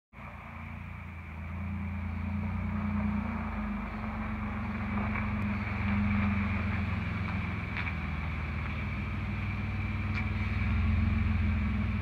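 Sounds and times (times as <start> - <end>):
pickup truck engine running: 0.2 - 12.0.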